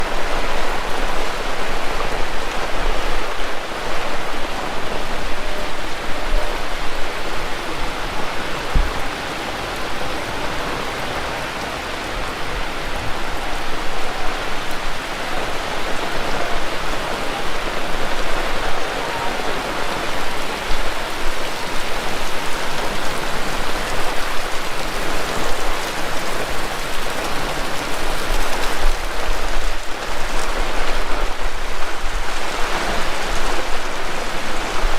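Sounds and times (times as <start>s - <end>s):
heavy rain falling: 0.0s - 34.9s
wind buffeting microphone: 0.0s - 34.9s.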